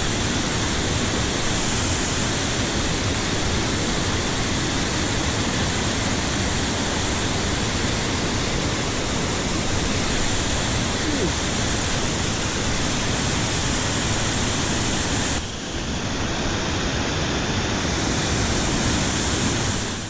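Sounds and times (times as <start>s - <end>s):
mountain stream flowing: 0.0s - 20.0s.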